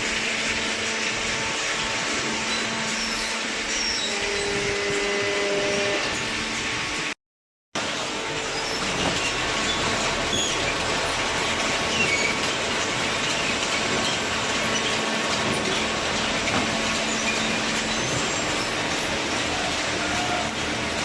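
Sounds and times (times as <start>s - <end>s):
baling machinery running: 0.0s - 7.2s, 7.8s - 21.0s.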